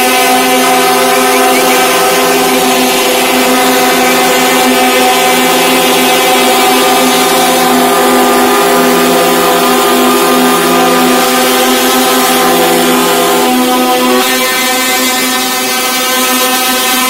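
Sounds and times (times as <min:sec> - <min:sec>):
truck air horns chord: 0:00.0 - 0:17.0.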